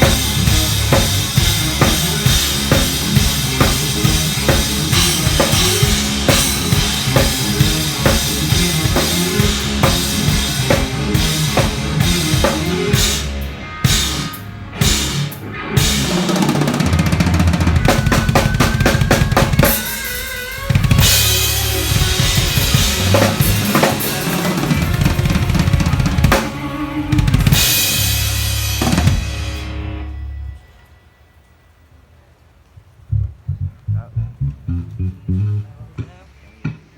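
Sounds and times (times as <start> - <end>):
deep bass notes: 0.0 - 19.7, 20.7 - 30.6, 33.0 - 36.8
drum kit playing: 0.0 - 30.6.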